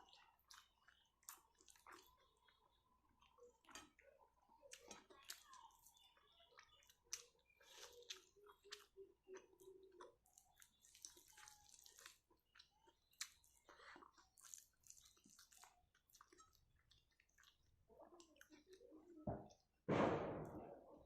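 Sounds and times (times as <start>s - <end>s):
person chewing food: 0.0s - 18.8s.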